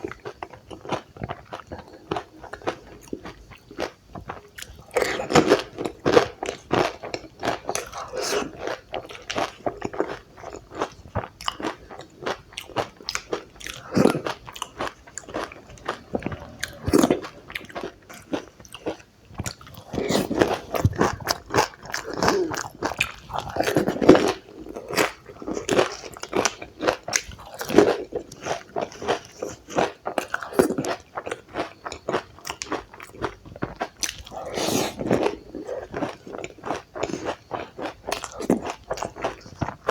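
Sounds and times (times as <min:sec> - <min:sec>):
wet chewing: 0:00.7 - 0:39.9.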